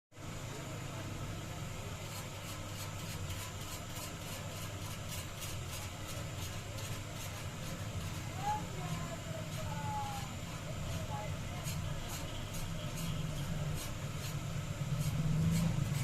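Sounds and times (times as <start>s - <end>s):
low mechanical hum with hiss: 0.2s - 16.0s.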